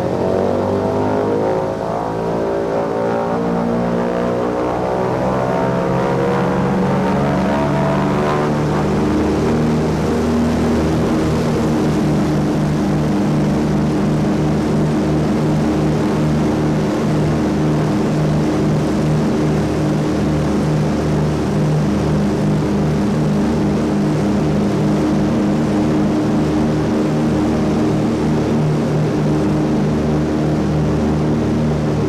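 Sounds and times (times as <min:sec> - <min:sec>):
propeller plane engines running: 0:00.0 - 0:32.0.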